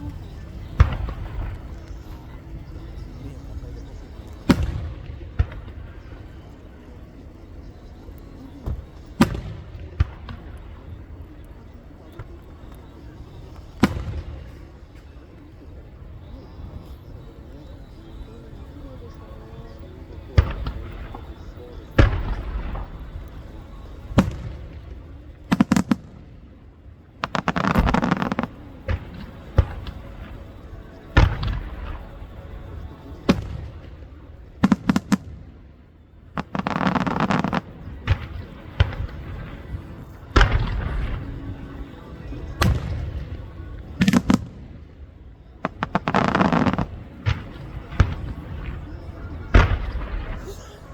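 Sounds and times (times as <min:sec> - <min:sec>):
dense firework crackling: 0:00.0 - 0:50.9.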